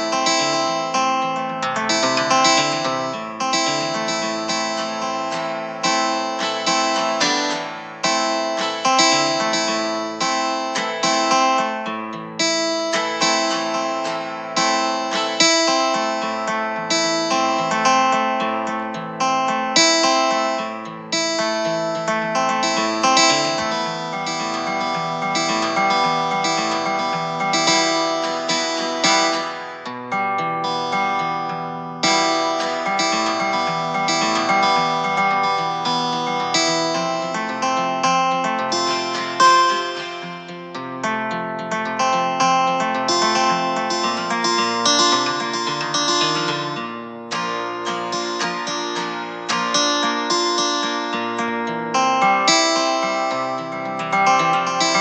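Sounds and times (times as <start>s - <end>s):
plucked acoustic guitar: 0.0s - 55.0s.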